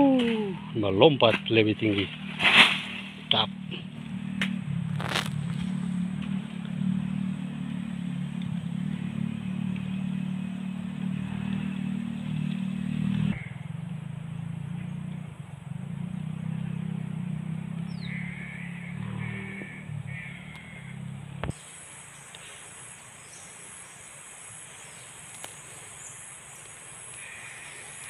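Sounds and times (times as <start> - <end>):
low motor-like hum: 0.0 - 24.8.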